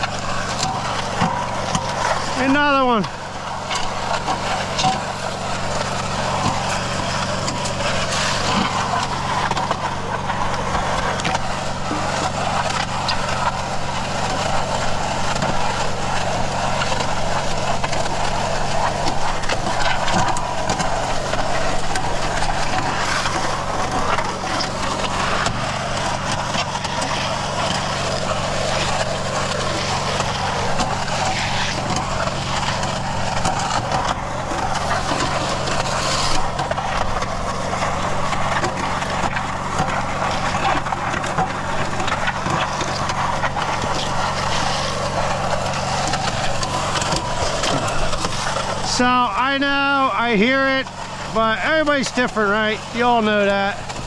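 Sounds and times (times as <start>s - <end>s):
concrete mixer motor humming: 0.0s - 54.0s
grinding churn of concrete mix: 0.0s - 54.0s.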